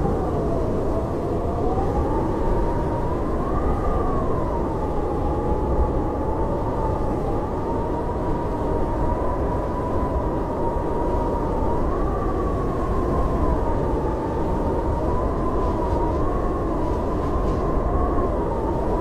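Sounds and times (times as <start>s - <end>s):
howling blizzard wind: 0.0s - 19.0s.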